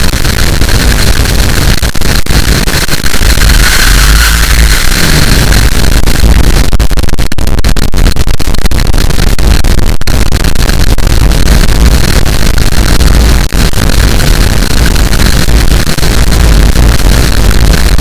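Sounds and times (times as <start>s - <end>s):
loud distorted harsh noise: 0.0s - 18.0s.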